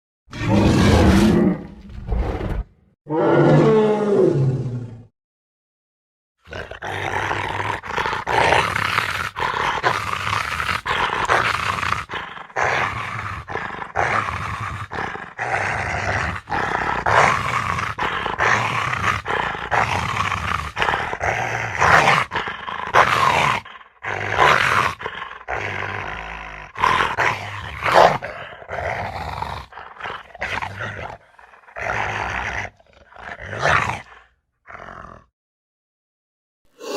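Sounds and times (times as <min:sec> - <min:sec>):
monster roars and growls: 0:00.3 - 0:05.1, 0:06.5 - 0:35.3.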